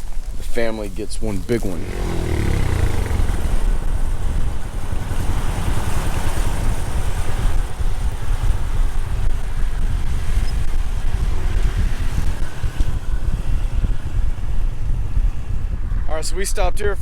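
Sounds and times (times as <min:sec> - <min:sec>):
motorcycle engine and road rumble: 0:00.0 - 0:17.0
wind buffeting microphone: 0:00.0 - 0:17.0.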